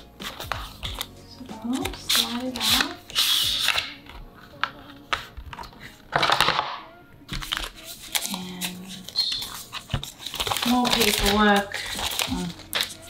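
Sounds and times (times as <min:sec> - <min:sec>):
card packaging crinkling: 0:01.8 - 0:13.0.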